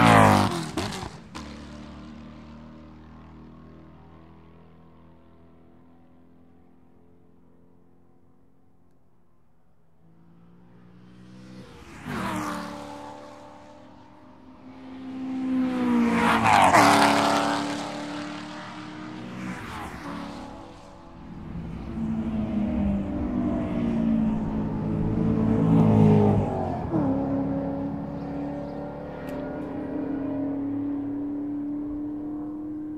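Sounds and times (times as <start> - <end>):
race cars passing at speed: 0.0 - 8.9, 9.6 - 32.9.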